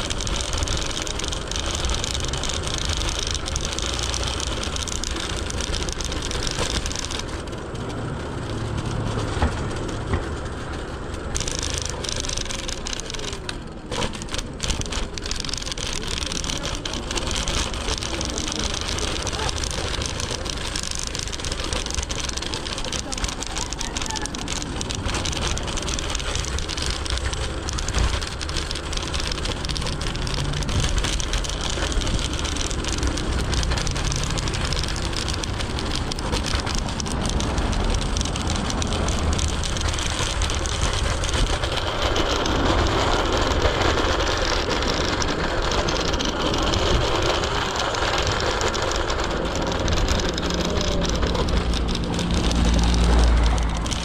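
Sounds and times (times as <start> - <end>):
scooter wheels rumbling on road: 0.0 - 54.0
traffic: 0.0 - 54.0.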